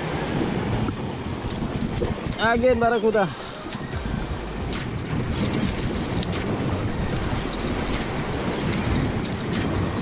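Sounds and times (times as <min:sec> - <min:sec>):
surf washing against rocks: 0:00.0 - 0:10.0
wind rumbling on microphone: 0:00.0 - 0:10.0.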